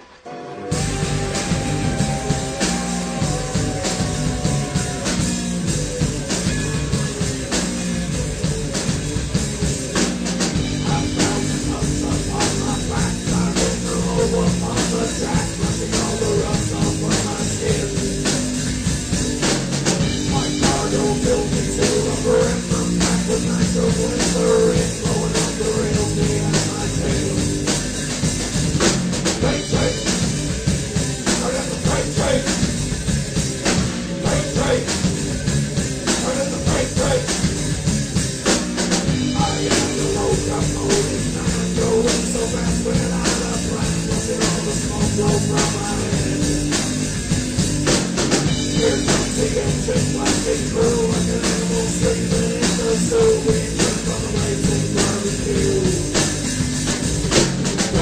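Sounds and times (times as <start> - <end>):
rock band playing: 0.0 - 58.0
drum kit beat: 0.7 - 58.0.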